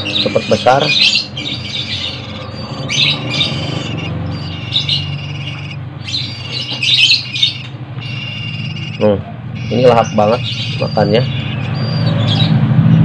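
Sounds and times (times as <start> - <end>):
nestlings begging chirps: 0.0 - 13.0.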